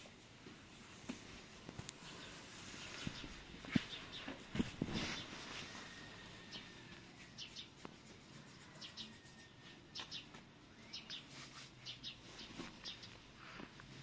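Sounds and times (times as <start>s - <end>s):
small birds chirping: 1.8s - 13.5s.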